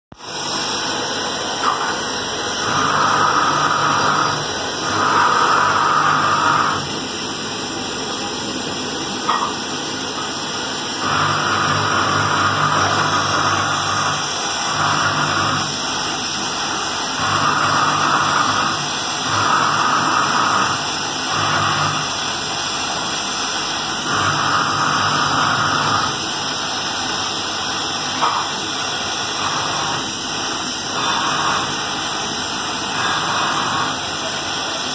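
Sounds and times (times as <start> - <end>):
welding torch flame hissing: 0.2 - 7.5, 9.4 - 34.9.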